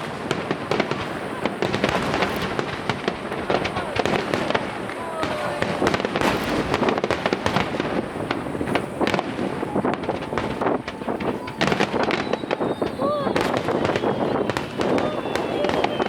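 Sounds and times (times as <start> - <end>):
fireworks bursting with crackling: 0.0 - 16.0.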